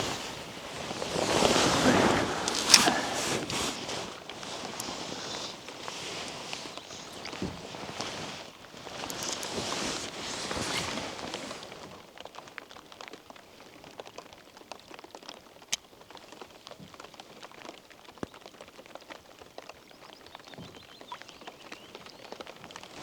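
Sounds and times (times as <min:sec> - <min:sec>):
light rain pattering: 0:00.0 - 0:23.0.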